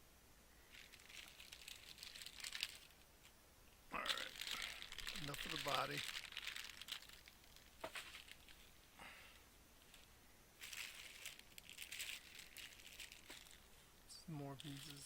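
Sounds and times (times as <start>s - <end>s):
plastic bags crinkling: 0.6s - 3.0s, 4.0s - 8.8s, 9.9s - 15.0s.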